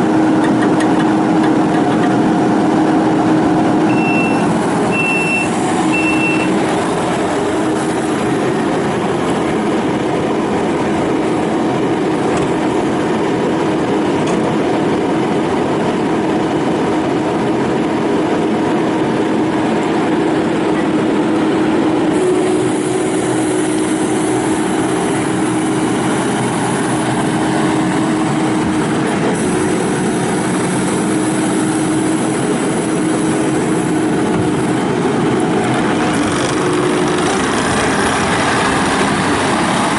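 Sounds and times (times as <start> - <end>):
diesel loader engine drone: 0.0 - 39.9.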